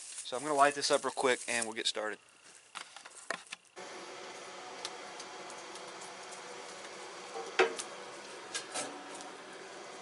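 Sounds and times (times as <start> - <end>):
faint fire hiss: 0.0 - 10.0.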